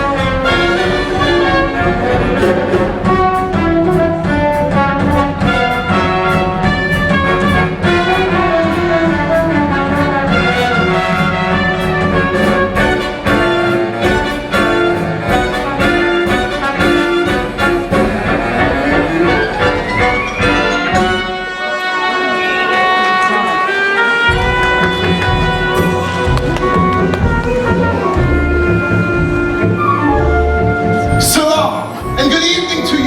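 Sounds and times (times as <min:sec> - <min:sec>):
sharp percussive beat: 0:00.0 - 0:21.6, 0:24.3 - 0:33.0
orchestral music with brass and strings: 0:00.0 - 0:33.0.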